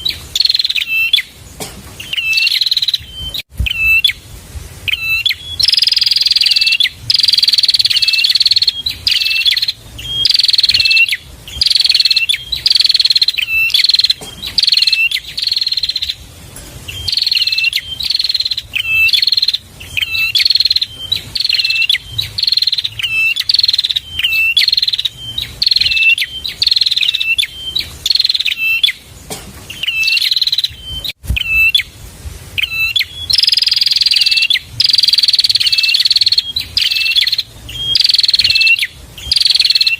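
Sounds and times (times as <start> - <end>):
bird hooked chirps: 0.0 - 1.3, 1.9 - 4.2, 4.9 - 31.9, 32.6 - 39.9
bird buzzy trill: 0.0 - 39.9.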